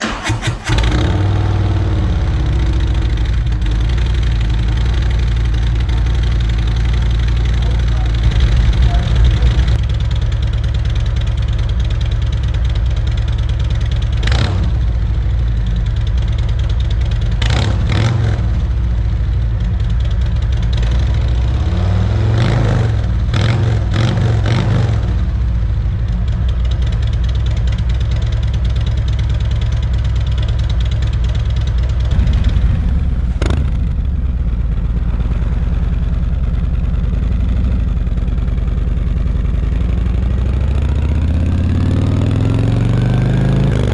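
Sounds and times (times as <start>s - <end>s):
motorcycle being ridden: 0.0s - 43.9s
motorcycle engine idling and revving: 0.0s - 43.9s.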